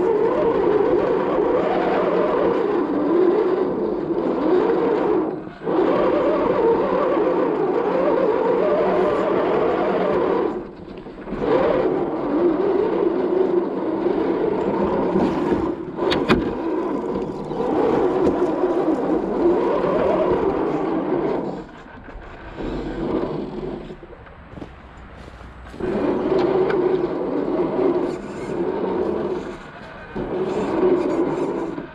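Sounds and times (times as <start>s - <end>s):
toy car electric motor whining: 0.0s - 24.2s, 25.2s - 31.9s.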